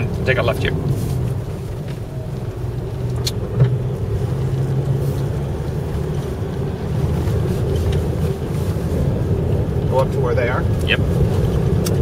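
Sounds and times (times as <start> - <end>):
truck engine drone: 0.0 - 12.0
vehicle bump: 0.0 - 12.0.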